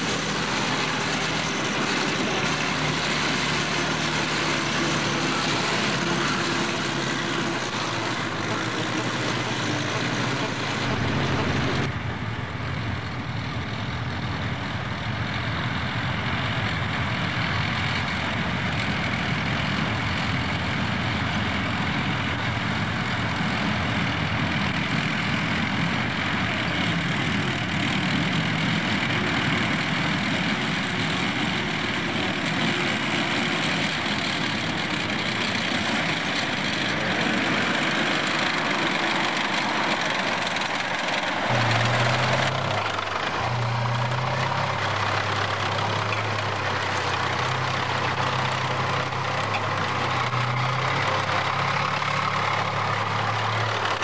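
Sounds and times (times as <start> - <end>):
tracked tractor engine under load: 0.0 - 54.0.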